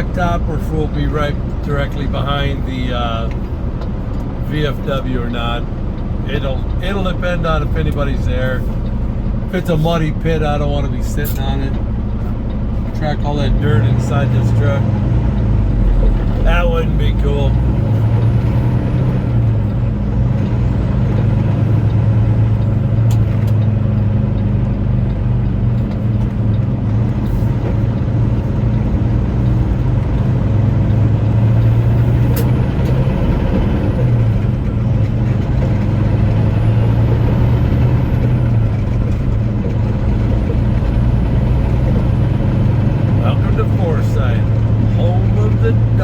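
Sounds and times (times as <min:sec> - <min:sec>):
truck engine drone from cab: 0:00.0 - 0:46.0.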